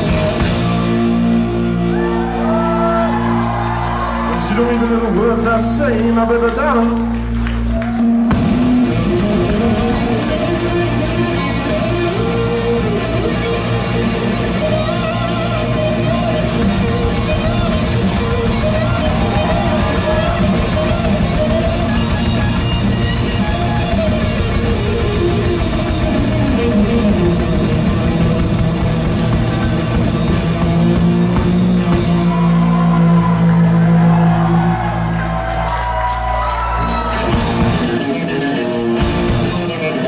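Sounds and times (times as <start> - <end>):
electric guitar: 0.0 - 40.0
rock band playing live: 0.0 - 40.0.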